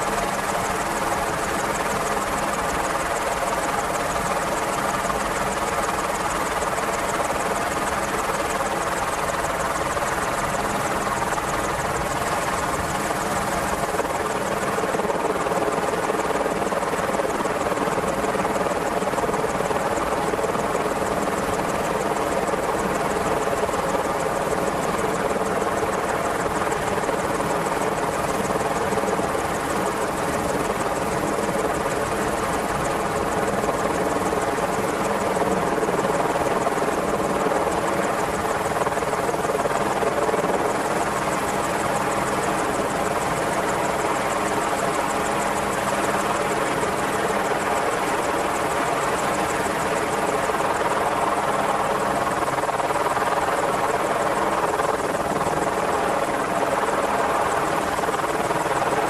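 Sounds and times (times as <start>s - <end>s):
helicopter running: 0.0s - 59.0s.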